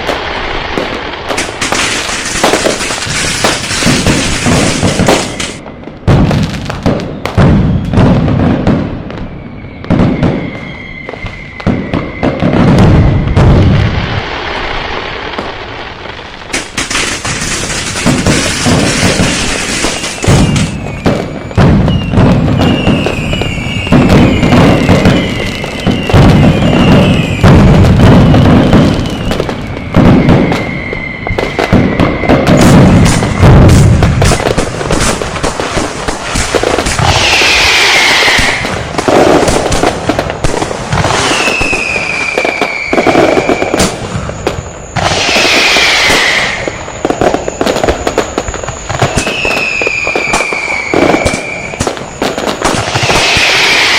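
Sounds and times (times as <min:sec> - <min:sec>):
firecrackers banging: 0:00.0 - 0:53.9
heavy firework booms: 0:00.0 - 0:53.9
whistling fireworks: 0:00.0 - 0:53.9.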